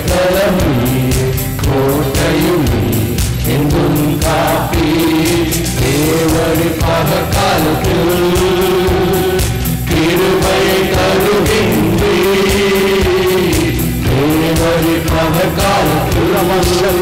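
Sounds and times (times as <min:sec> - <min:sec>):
group singing worship song: 0:00.0 - 0:17.0
hands clapping steady beat: 0:00.0 - 0:17.0.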